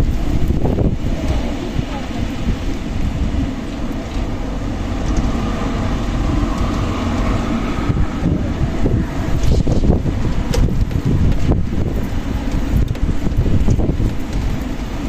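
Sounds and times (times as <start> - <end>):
strong wind gusts: 0.0 - 15.0
wind buffeting microphone: 0.0 - 15.0.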